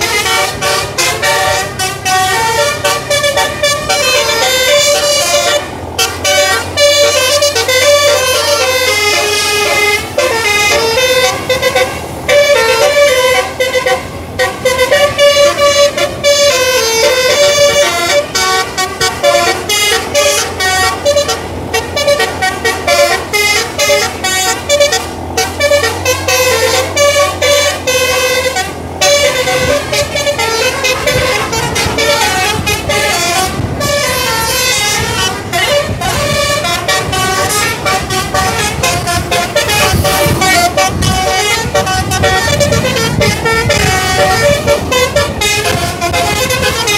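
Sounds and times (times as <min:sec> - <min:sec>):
bus engine rumble: 0:00.0 - 0:46.9
musical air horn: 0:00.0 - 0:46.9.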